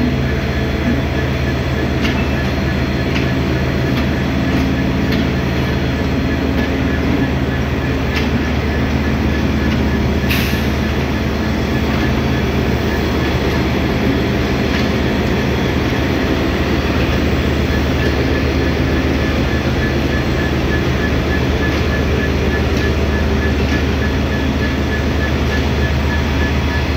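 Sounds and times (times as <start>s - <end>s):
diesel locomotive engine drone: 0.0s - 26.9s.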